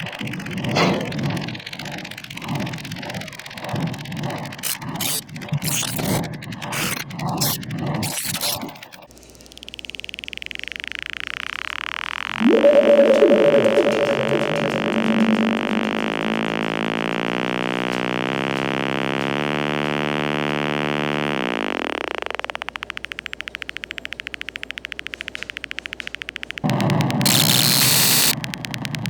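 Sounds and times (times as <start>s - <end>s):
buzzing electronic drones: 0.0s - 29.0s.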